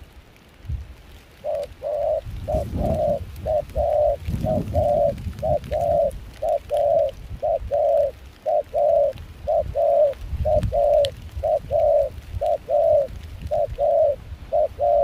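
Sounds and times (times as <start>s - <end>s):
low wind rumble: 0.0s - 15.0s
dove cooing: 1.4s - 15.0s.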